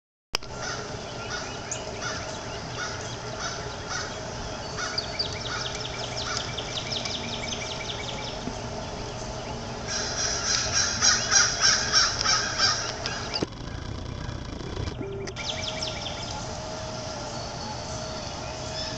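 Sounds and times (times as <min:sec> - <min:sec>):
birds chirping: 0:00.4 - 0:18.9
loud harsh bird calls: 0:00.5 - 0:18.9.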